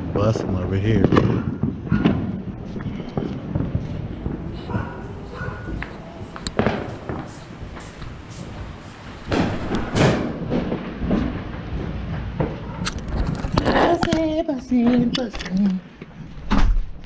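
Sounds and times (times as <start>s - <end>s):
fireworks popping and crackling: 0.0s - 15.8s.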